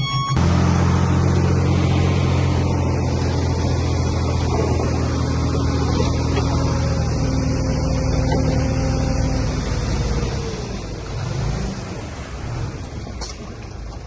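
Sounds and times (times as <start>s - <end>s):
heavy diesel machinery running: 0.0s - 13.8s.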